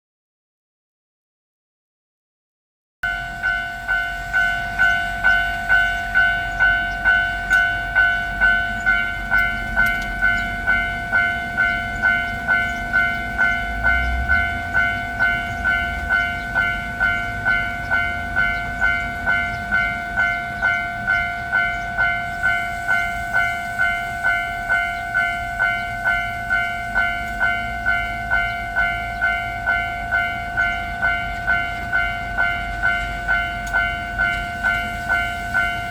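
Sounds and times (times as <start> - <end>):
level crossing alarm bell ringing: 3.0 - 35.9.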